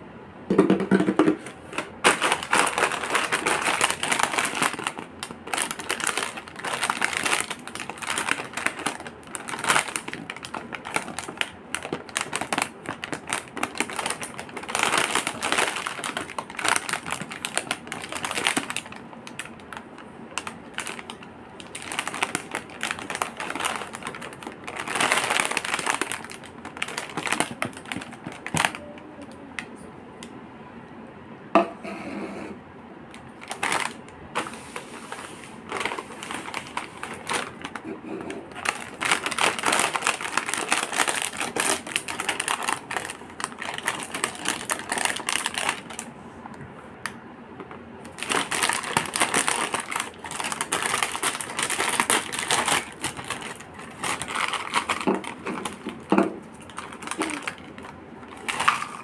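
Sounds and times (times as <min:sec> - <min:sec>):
plastic snack packets crinkling: 0:00.9 - 0:29.6, 0:33.2 - 0:46.1, 0:47.6 - 0:59.0.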